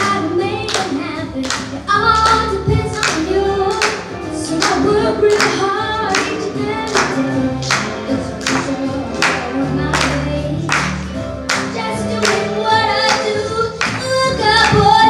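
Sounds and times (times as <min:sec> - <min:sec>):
girl singing into microphone: 0:00.0 - 0:10.8, 0:11.7 - 0:15.0
backing track with steady beat: 0:01.4 - 0:15.0.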